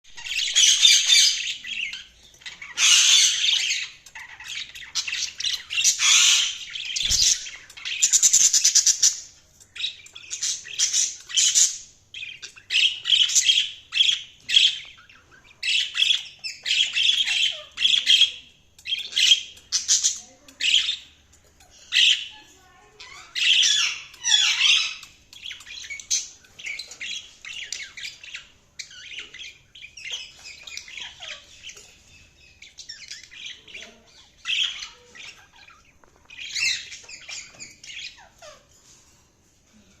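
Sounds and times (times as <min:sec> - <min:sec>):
budgerigars chirping: 0:00.1 - 0:38.7.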